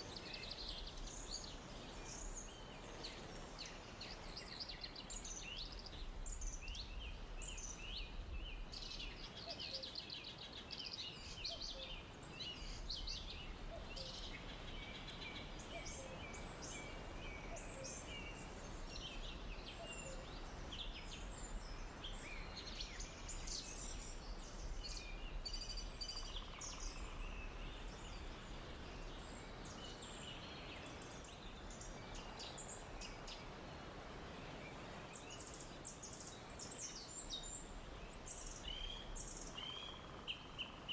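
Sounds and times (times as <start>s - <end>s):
small birds chirping and trilling: 0.0s - 33.6s
background hiss: 0.0s - 40.9s.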